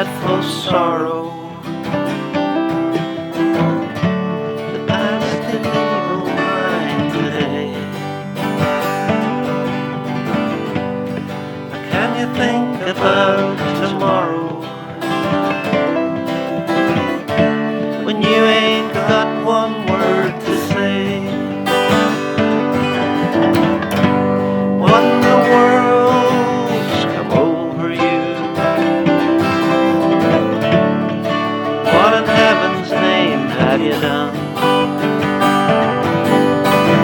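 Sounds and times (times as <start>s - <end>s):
acoustic guitar strumming: 0.0s - 37.0s.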